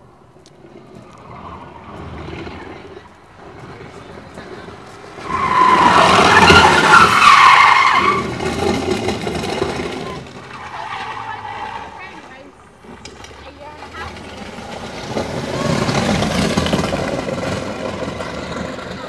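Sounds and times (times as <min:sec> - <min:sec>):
car engine revving: 0:00.7 - 0:19.0
tyres squealing: 0:00.7 - 0:19.0.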